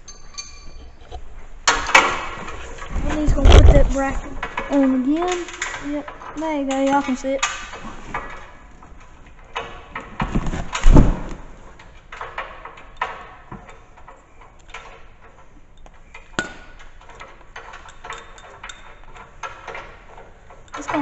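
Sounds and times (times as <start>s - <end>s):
metal bracket and bolts clanking: 0.0s - 21.0s.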